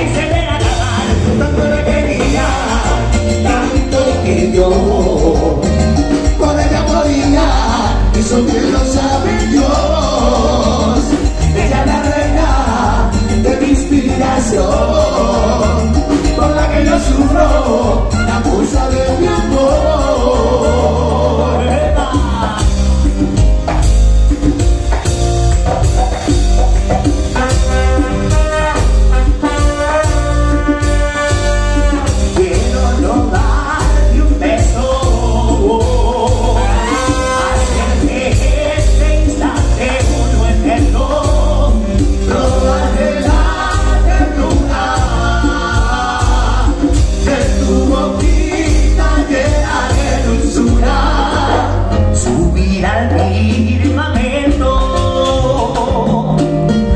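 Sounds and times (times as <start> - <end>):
person singing: 0.0 - 22.9, 32.2 - 56.9
congas and timbales beat: 0.0 - 56.9
latin band playing: 0.0 - 56.9
trumpet and trombone melody: 0.0 - 56.9.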